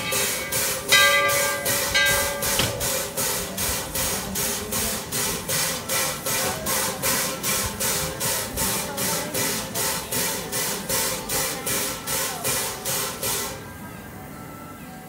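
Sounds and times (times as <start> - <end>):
steam air pump hissing pulses: 0.0 - 13.6.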